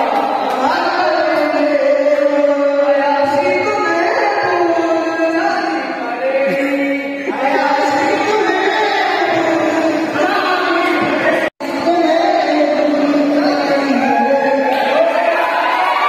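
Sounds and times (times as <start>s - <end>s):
men singing into microphones: 0.0s - 16.0s.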